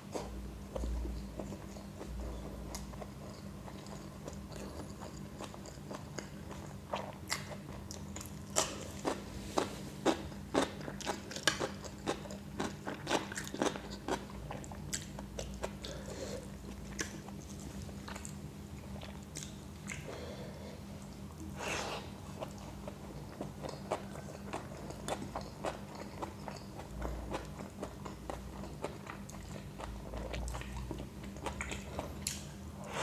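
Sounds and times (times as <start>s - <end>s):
faint steady hum: 0.0s - 33.0s
person chewing food: 0.1s - 33.0s.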